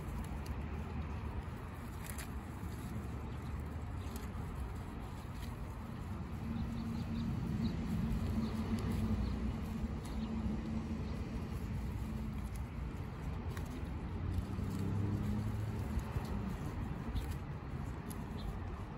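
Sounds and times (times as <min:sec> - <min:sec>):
goats chewing leaves: 0:00.0 - 0:18.9
leaves rustling: 0:00.0 - 0:18.9.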